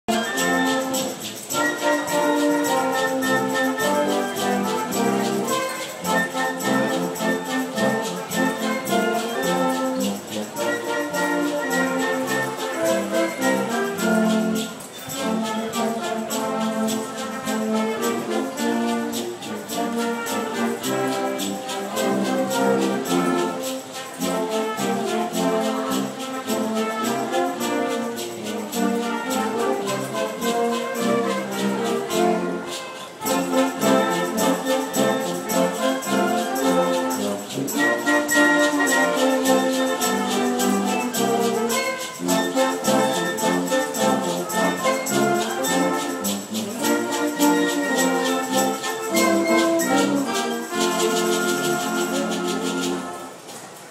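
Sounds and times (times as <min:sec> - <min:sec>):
brass band playing: 0:00.0 - 0:53.9.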